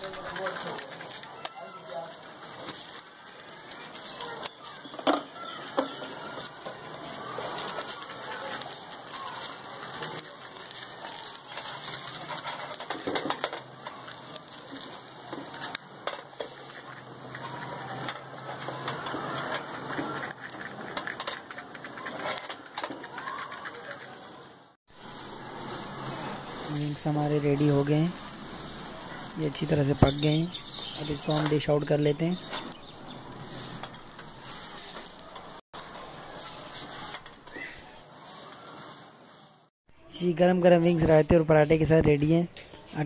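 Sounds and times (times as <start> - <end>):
charcoal grill sizzling and popping: 0.0 - 23.4, 24.9 - 39.6.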